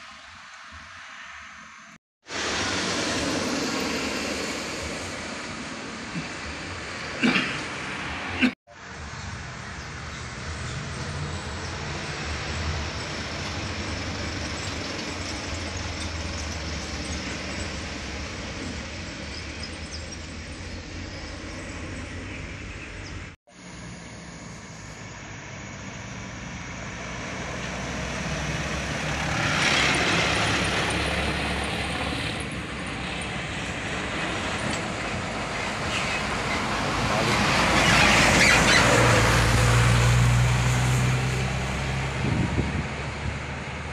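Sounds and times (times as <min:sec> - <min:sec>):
trucks passing on road: 0:00.0 - 0:43.9.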